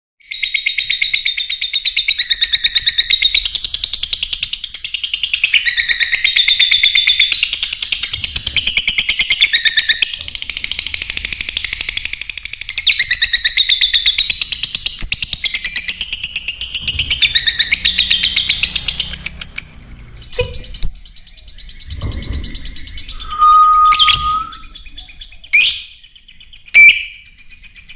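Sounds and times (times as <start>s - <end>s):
lovebirds chirping and chattering: 5.1s - 27.9s.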